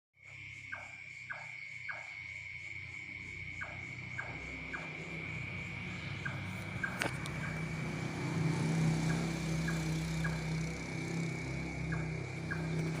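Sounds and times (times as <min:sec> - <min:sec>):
high insect trill: 0:00.2 - 0:13.0
nightjar calling: 0:00.2 - 0:13.0.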